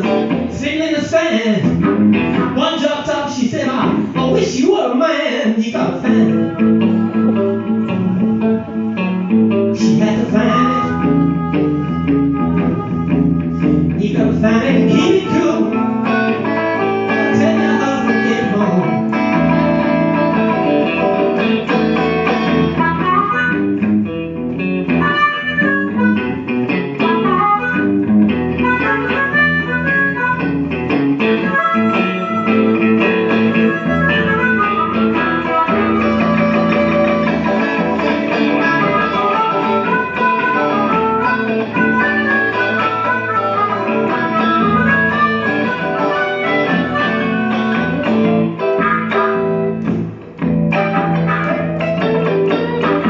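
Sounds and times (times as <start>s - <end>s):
electric blues guitar: 0.0s - 53.0s.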